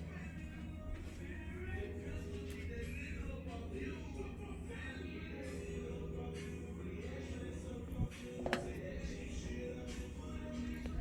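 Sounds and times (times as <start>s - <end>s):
radio playing music with bass: 0.0s - 11.0s.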